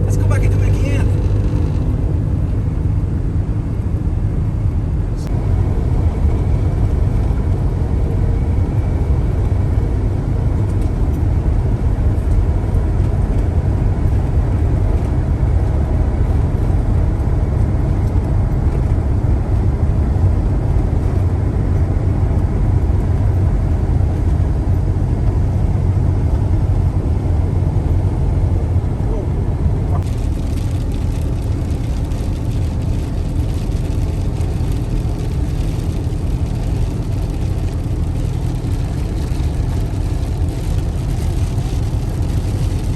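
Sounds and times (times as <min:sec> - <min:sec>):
tyres on road: 0:00.0 - 0:42.9
vehicle engine rumble: 0:00.0 - 0:42.9.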